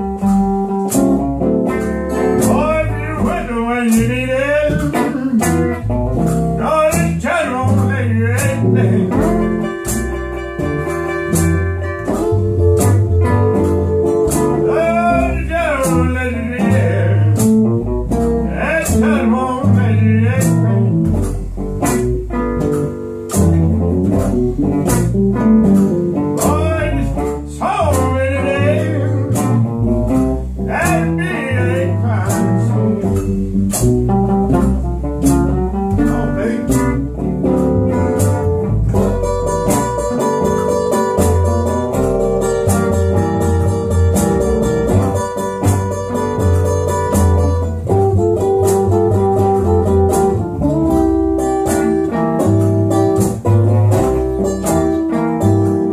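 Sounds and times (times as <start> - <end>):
acoustic guitar: 0.0 - 55.9
plucked double bass: 0.0 - 55.9.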